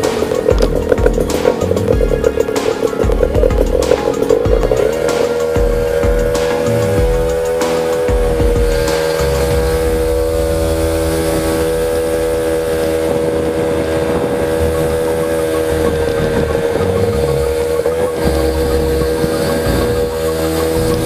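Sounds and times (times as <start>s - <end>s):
scooter engine running: 0.0s - 21.0s.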